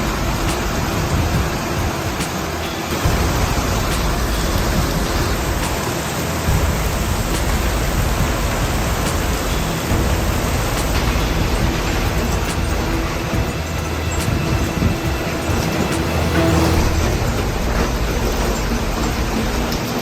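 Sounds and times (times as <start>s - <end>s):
heavy rain pouring: 0.0s - 20.0s
low rumble of wind: 0.0s - 20.0s.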